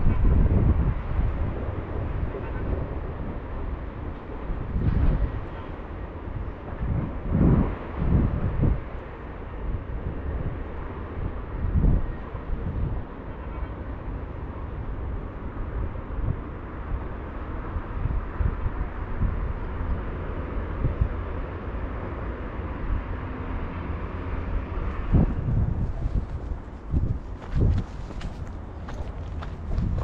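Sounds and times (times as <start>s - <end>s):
distant city traffic hum: 0.0s - 30.0s
wind gusting on microphone: 0.0s - 30.0s.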